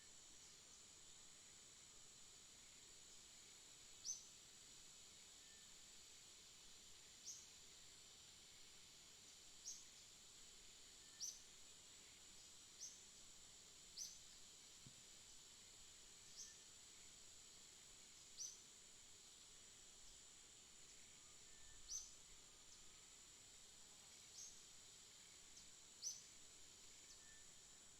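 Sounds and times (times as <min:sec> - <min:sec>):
steady high hiss: 0:00.0 - 0:27.9.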